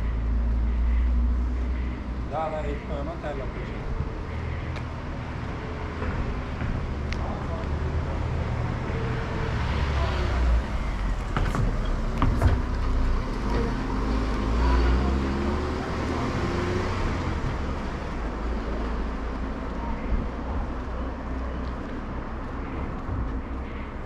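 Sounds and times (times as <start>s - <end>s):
passing traffic rumble: 0.0s - 24.0s.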